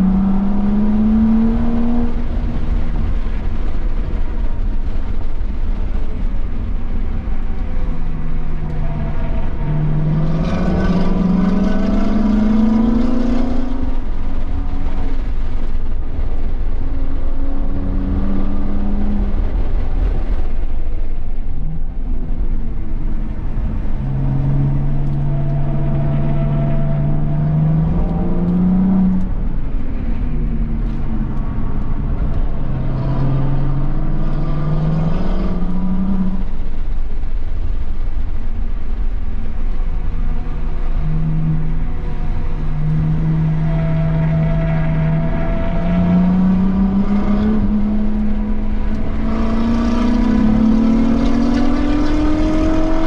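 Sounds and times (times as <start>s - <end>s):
car engine revving under load: 0.0s - 37.8s, 39.0s - 53.0s
road and wind noise: 0.0s - 53.0s.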